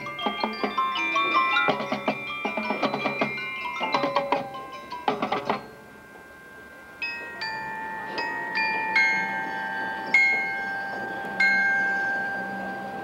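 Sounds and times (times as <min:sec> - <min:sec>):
bell-like mallet percussion: 0:00.0 - 0:13.0.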